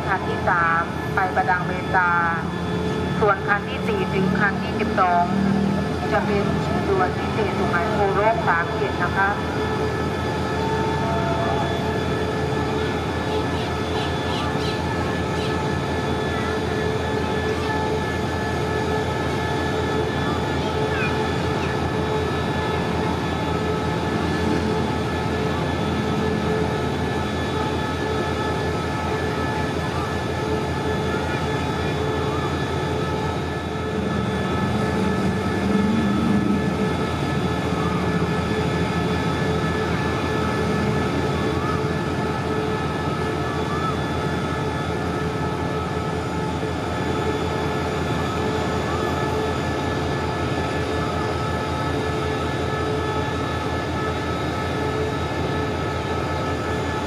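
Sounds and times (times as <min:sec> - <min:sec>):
diesel locomotive idling: 0:00.0 - 0:57.0
steady high whine: 0:00.0 - 0:57.0.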